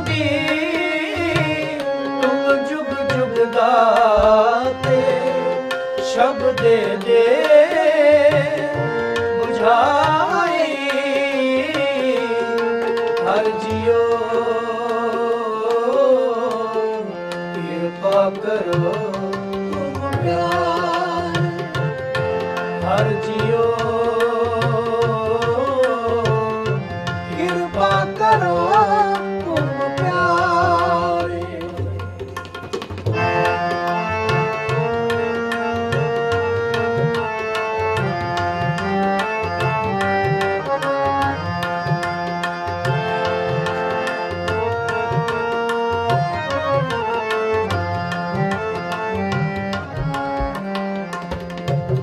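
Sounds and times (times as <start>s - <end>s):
harmonium melody: 0.0s - 52.0s
tabla rhythm: 0.0s - 52.0s.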